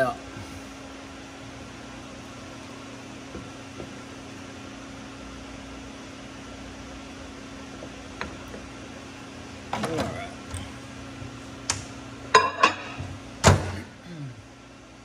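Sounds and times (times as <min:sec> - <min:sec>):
ice maker humming: 0:00.0 - 0:15.0.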